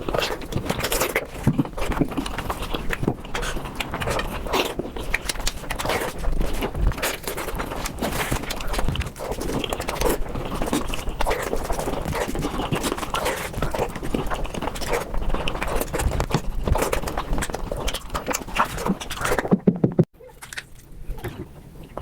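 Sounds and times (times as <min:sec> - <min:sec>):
sped-up chewing and crunching: 0:00.0 - 0:22.0.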